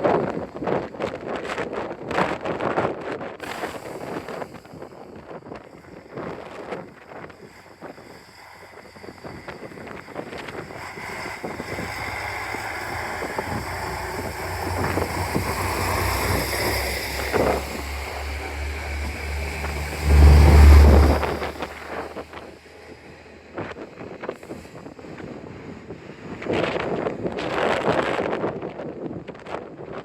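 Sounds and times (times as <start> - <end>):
diesel railcar engine rumble: 0.0 - 30.0.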